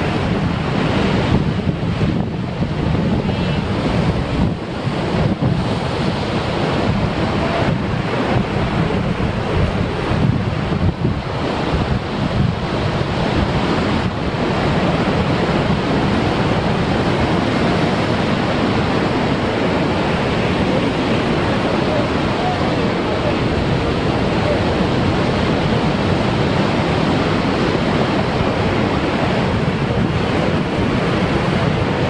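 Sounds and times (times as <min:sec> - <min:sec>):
heavy surf on rocks: 0:00.0 - 0:32.0.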